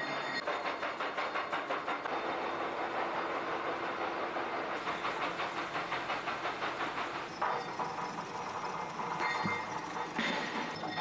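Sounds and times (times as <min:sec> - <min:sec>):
factory machinery running: 0:00.0 - 0:11.0
fast regular machine clatter: 0:00.4 - 0:11.0.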